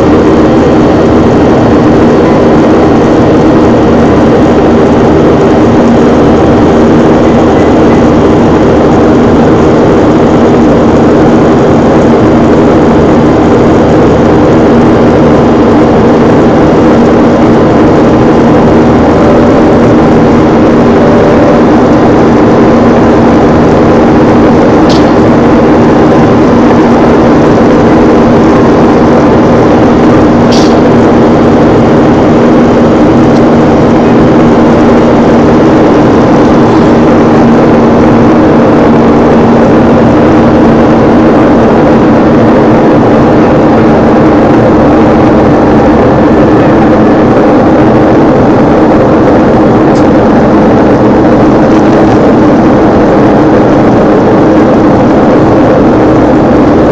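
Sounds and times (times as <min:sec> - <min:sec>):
jet engine cabin noise: 0:00.0 - 0:56.9.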